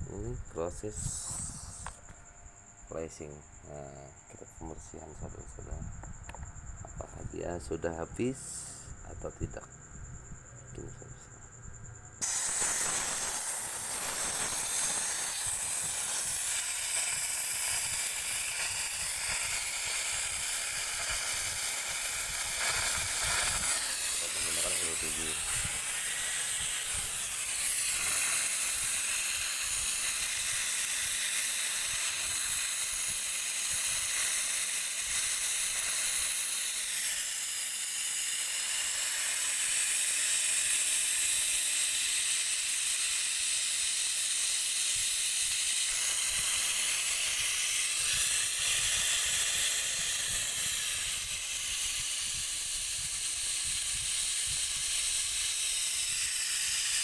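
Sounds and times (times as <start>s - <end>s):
pressurised gas hissing: 0.0s - 2.1s, 12.2s - 57.0s.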